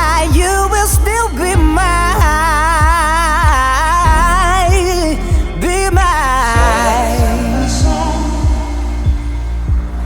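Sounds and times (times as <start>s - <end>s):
melodic lead line: 0.0s - 10.0s
steady kick-drum beat: 0.0s - 10.0s.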